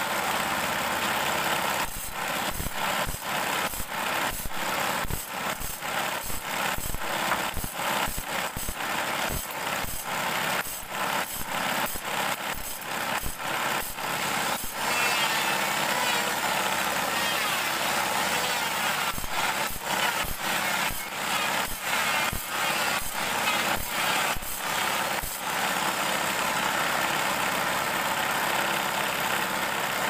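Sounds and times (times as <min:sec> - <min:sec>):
motor running steadily: 0:00.0 - 0:30.0.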